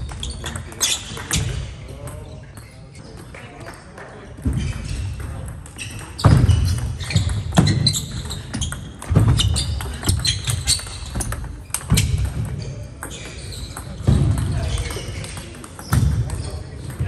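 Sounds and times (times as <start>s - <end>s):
shoe squeaks on floor: 0.0s - 1.6s, 4.5s - 17.0s.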